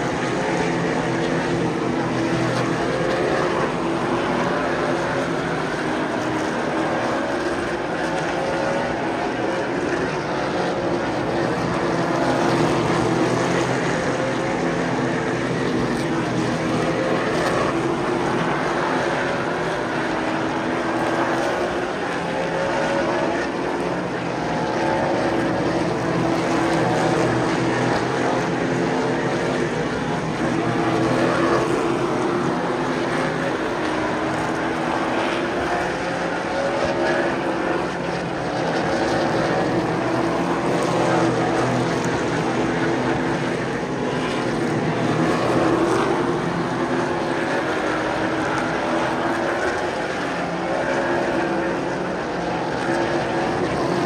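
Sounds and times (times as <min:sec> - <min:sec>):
race car engines passing: 0:00.0 - 0:54.0.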